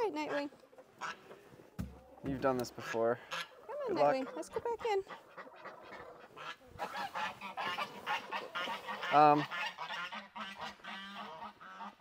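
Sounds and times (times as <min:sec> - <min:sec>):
geese honking: 0:00.0 - 0:01.4, 0:02.0 - 0:12.0.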